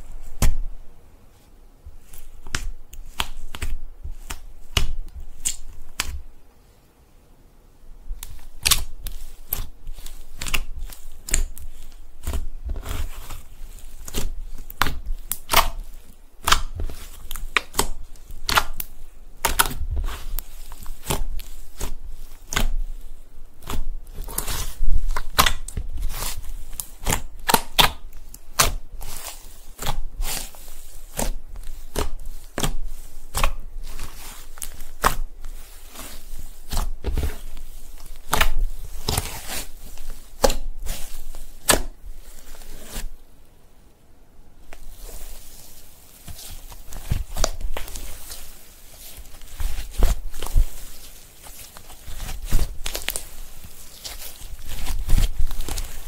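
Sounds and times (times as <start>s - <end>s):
slime squishing with sticky pops: 2.0s - 6.3s, 8.1s - 43.2s, 44.6s - 56.0s.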